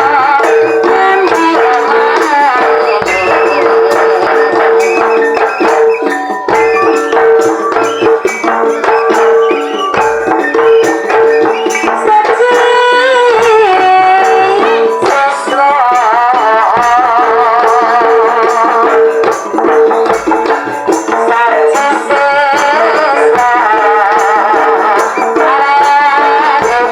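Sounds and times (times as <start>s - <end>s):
repeated struck tone: 0.0s - 22.0s
drums: 0.0s - 26.9s
jingling rattle percussion: 0.0s - 26.9s
wavering melody: 0.0s - 26.9s.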